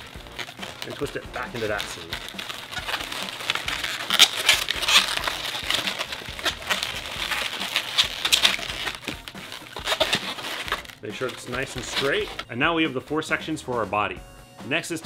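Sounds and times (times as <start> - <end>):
balloons squeaking and rubbing: 0.0 - 12.6.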